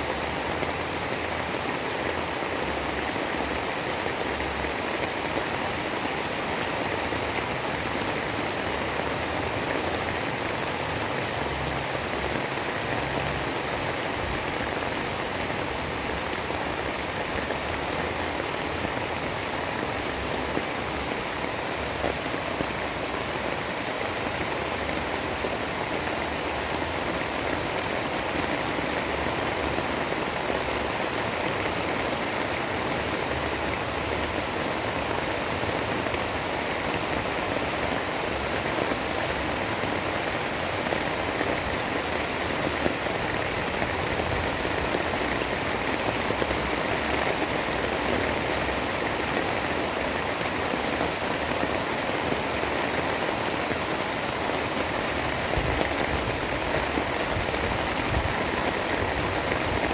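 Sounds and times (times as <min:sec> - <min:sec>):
rain-like hiss: 0:00.0 - 0:59.9.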